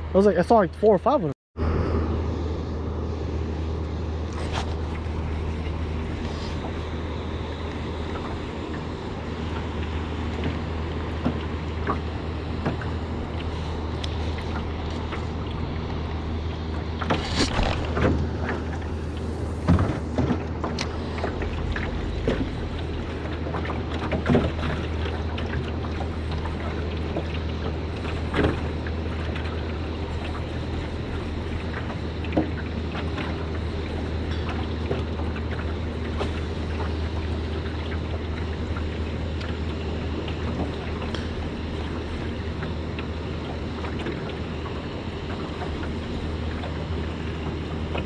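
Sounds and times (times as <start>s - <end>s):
steady low hum: 0.0s - 48.0s
wind and water rush: 0.0s - 48.0s.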